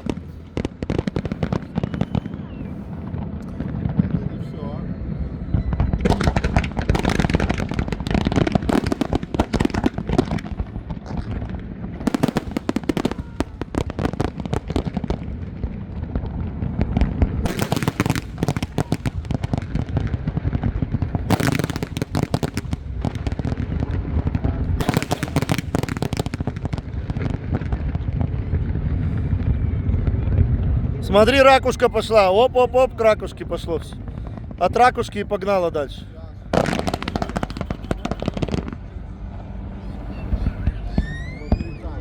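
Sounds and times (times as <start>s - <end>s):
fireworks crackling: 0.0s - 4.6s, 5.3s - 42.0s
low rumble of bursting shells: 0.0s - 42.0s.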